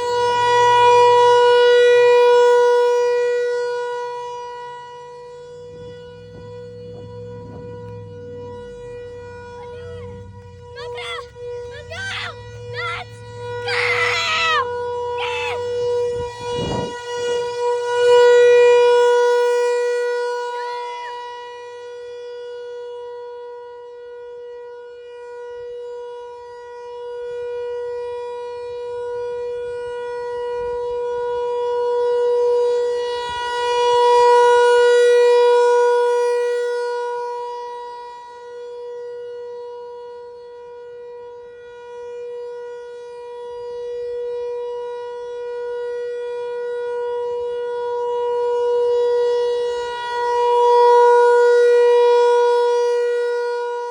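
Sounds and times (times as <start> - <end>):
warning siren steady tone: 0.0 - 53.9.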